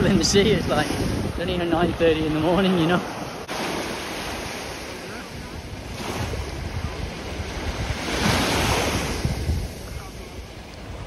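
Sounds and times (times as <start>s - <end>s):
small waves washing onto beach: 0.0s - 11.0s
wind buffeting microphone: 0.0s - 11.0s.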